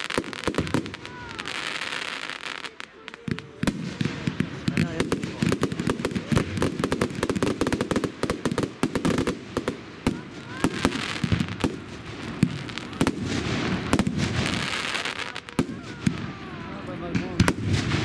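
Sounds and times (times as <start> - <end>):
fireworks crackling and banging: 0.0 - 18.0
fireworks hissing fizz: 0.0 - 18.0.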